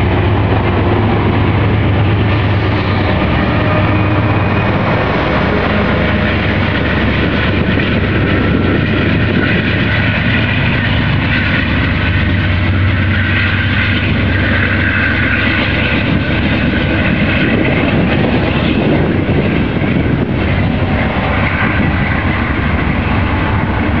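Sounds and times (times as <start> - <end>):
diesel locomotive engine humming: 0.0 - 24.0
train wheels rumbling on rails: 0.0 - 24.0.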